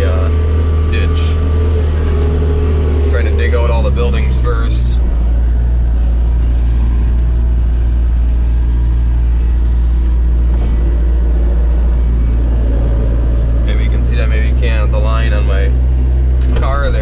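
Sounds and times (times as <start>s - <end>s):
diesel loader engine droning: 0.0s - 17.0s.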